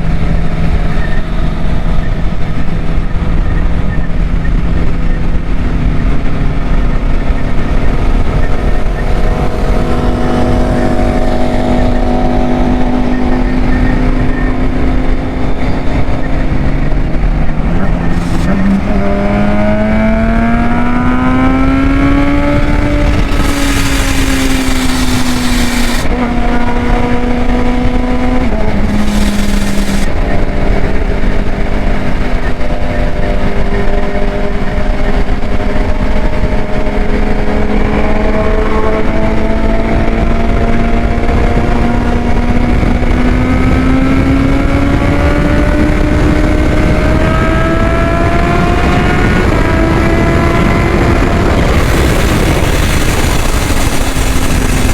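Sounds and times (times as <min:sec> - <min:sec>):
vehicle engine running: 0:00.0 - 0:54.9
wind and road noise: 0:00.0 - 0:54.9.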